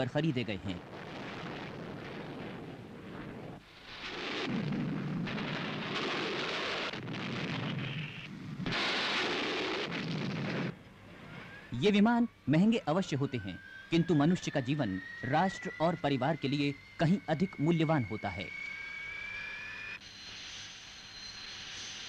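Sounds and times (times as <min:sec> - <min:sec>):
fighter jet engine roar: 0:00.0 - 0:22.0.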